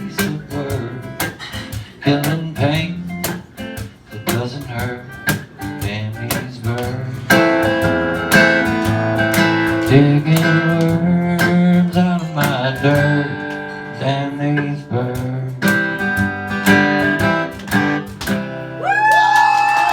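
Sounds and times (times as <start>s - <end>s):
acoustic guitar strumming: 0.0s - 19.1s.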